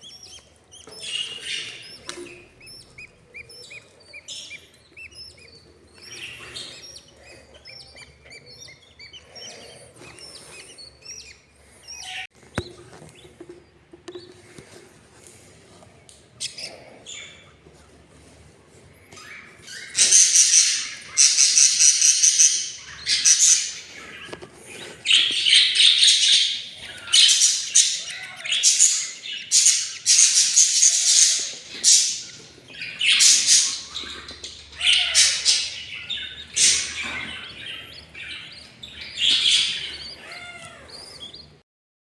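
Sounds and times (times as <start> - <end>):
budgies calling harshly: 0.0 - 13.4, 19.1 - 41.6.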